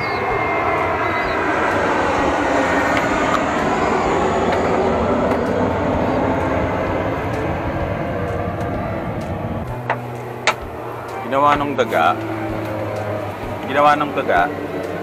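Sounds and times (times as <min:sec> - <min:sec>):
aircraft passing overhead: 0:00.0 - 0:15.0.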